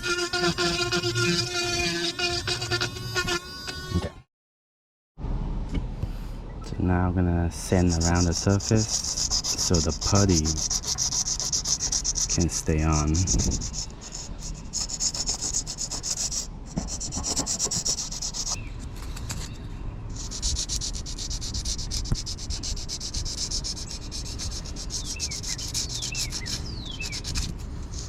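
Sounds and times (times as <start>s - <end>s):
sandpaper rubbing on fiberglass: 0.0s - 4.0s, 7.7s - 19.5s, 20.1s - 28.0s.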